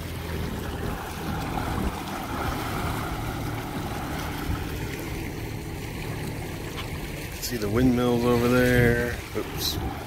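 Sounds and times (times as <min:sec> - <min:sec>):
water rushing along boat hull: 0:00.0 - 0:10.0
steady low hum: 0:00.1 - 0:10.0.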